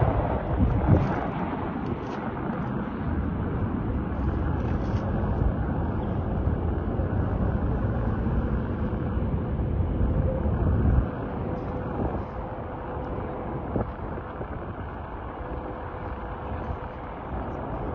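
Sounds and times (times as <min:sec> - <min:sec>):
jet engines rumbling: 0:00.0 - 0:17.9.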